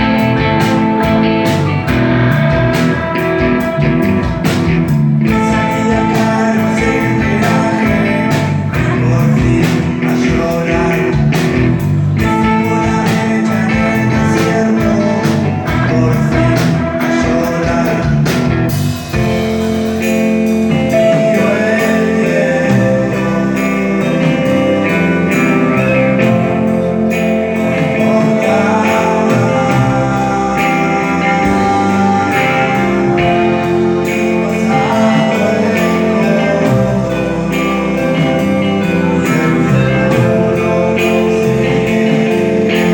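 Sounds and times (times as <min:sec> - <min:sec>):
drums: 0:00.0 - 0:42.9
electric guitar: 0:00.0 - 0:42.9.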